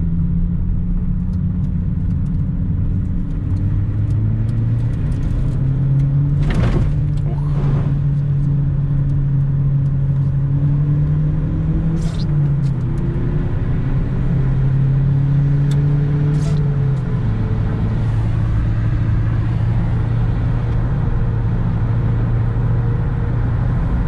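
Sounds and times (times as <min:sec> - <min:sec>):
car engine running: 0:00.0 - 0:24.0
road and tyre noise: 0:00.0 - 0:24.0.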